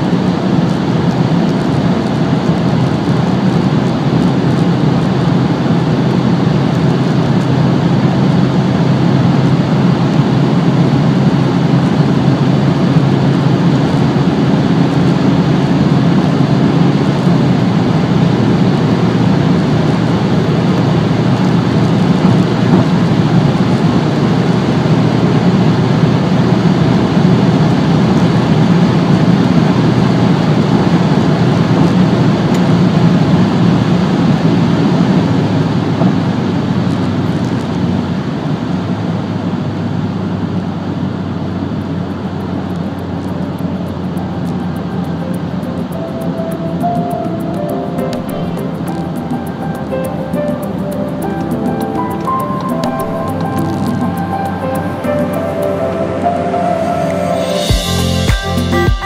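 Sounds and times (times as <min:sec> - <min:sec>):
wind and road roar: 0:00.0 - 0:58.8
car engine hum: 0:00.0 - 0:59.0.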